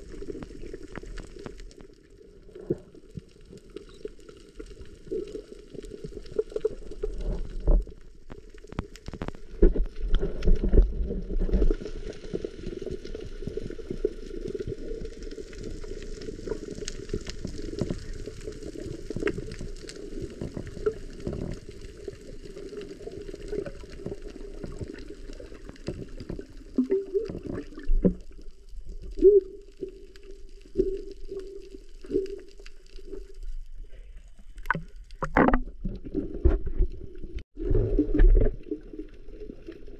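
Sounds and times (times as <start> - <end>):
crackling clicks: 0.0 - 37.4
gurgling bubbles: 0.0 - 39.9
underwater rumble of moving water: 0.0 - 39.9.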